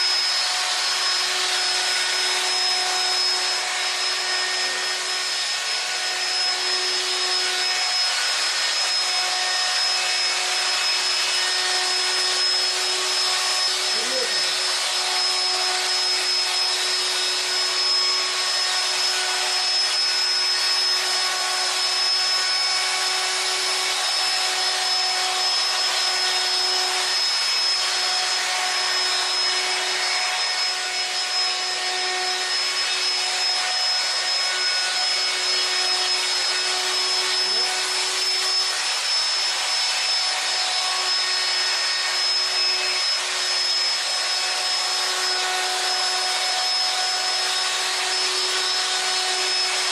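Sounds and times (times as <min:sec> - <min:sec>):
power tool motor whining: 0:00.0 - 0:49.9.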